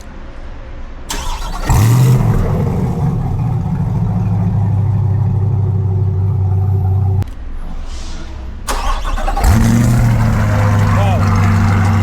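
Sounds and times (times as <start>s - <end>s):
car engine starting and idling: 1.0s - 12.0s.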